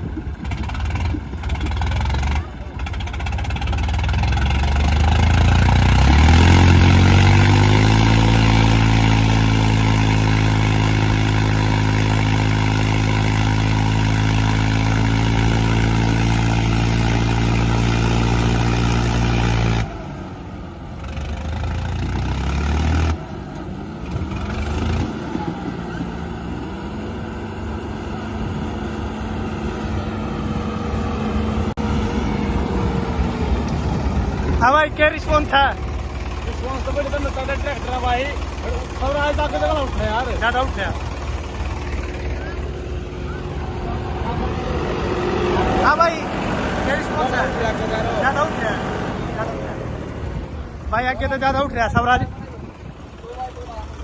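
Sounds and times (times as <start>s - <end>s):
diesel tractor engines revving: 0.0s - 54.0s.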